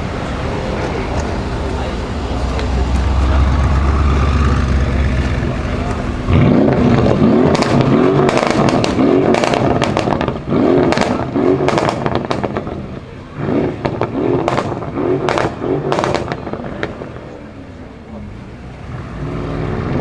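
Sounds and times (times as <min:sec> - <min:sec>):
exhaust crackles and pops: 0:00.0 - 0:18.3
car engine revving: 0:00.0 - 0:20.0.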